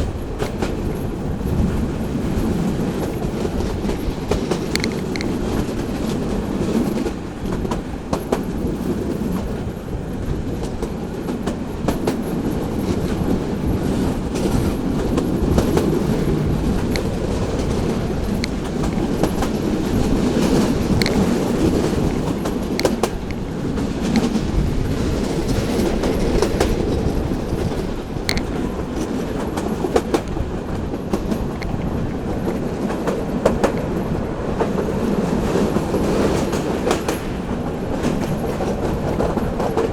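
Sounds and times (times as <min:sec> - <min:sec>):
rail joint clicks: 0:00.0 - 0:39.9
train wheels rumbling on rails: 0:00.0 - 0:39.9.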